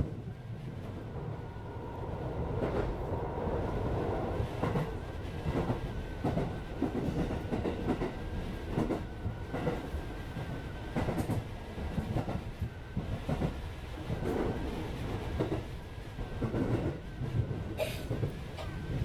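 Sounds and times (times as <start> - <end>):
train interior rumble and hum: 0.0 - 19.0.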